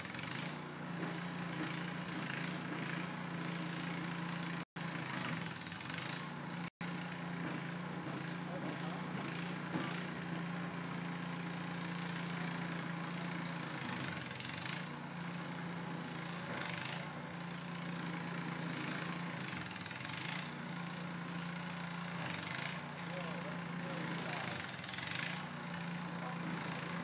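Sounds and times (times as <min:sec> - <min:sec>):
engine humming: 0:00.0 - 0:27.0.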